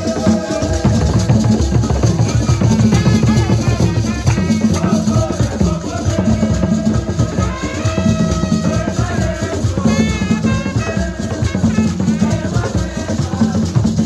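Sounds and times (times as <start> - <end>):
music with heavy drum beat: 0.0 - 14.0.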